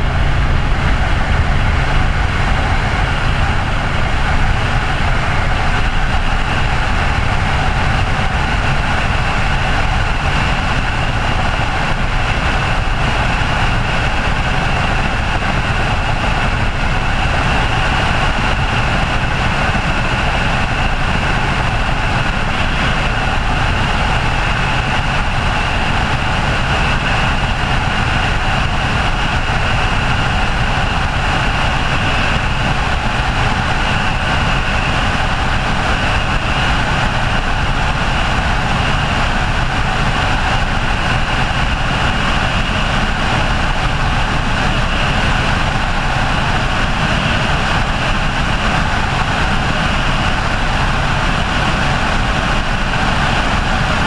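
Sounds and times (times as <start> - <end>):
helicopter rotor rumble: 0.0 - 54.0
helicopter turbine whine: 0.0 - 54.0.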